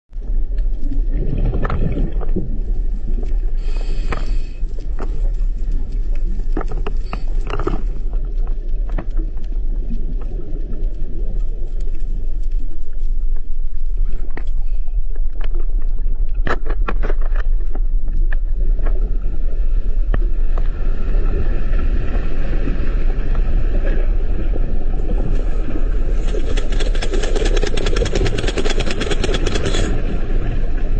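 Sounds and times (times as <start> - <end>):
low rumble: 0.1 - 30.9.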